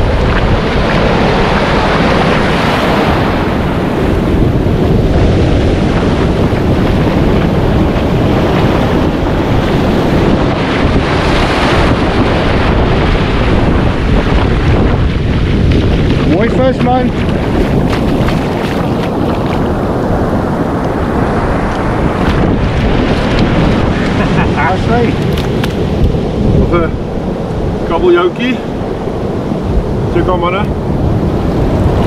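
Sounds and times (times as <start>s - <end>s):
ocean surf breaking: 0.0s - 32.0s
wind buffeting microphone: 0.0s - 32.0s.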